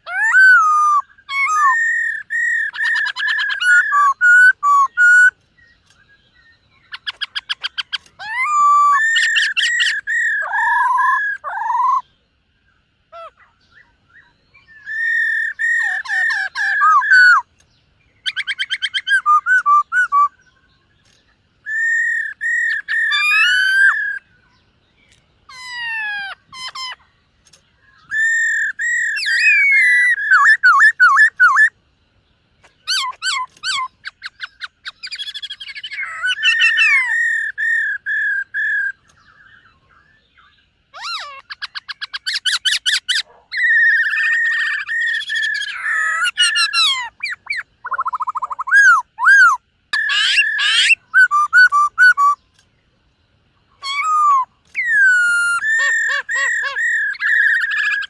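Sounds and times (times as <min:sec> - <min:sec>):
bird singing whistles and trills: 0:00.0 - 0:31.8, 0:32.6 - 0:52.6, 0:53.7 - 0:58.0.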